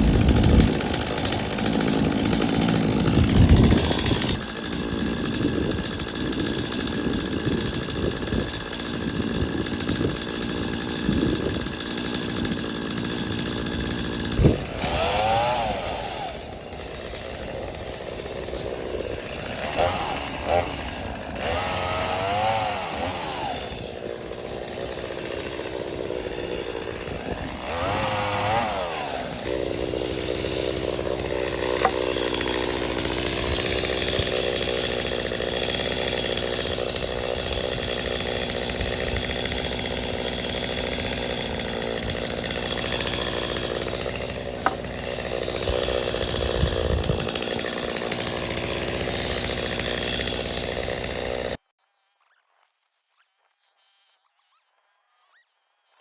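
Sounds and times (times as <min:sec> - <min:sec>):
chainsaw revving and cutting log: 0:00.0 - 0:51.7.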